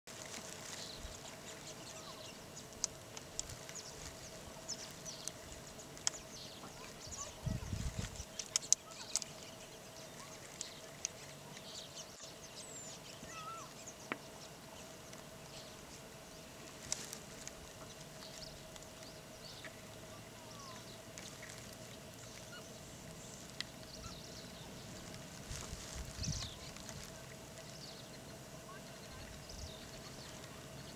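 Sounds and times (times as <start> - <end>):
faint steady hum: 0.1 - 30.9.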